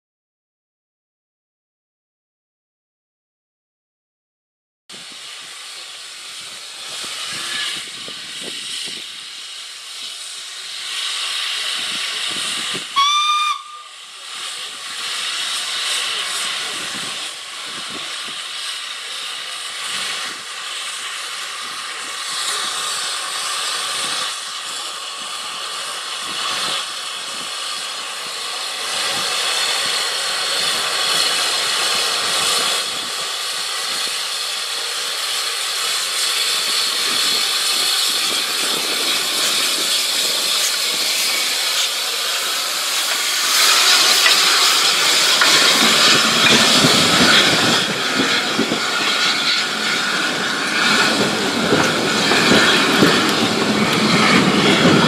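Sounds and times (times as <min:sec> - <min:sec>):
steam locomotive hissing: 0:04.9 - 0:55.0
train wheels rumbling on rails: 0:04.9 - 0:55.0.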